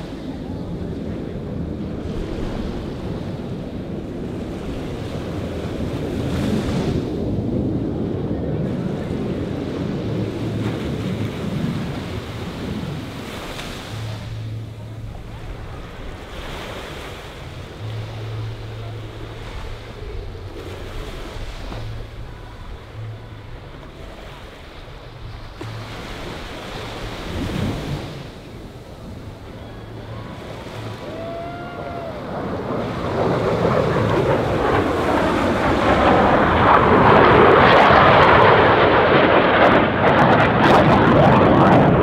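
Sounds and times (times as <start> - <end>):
low rumble: 0.0 - 16.6, 17.2 - 42.0
surf breaking on beach: 0.0 - 42.0
wind buffeting microphone: 0.0 - 42.0.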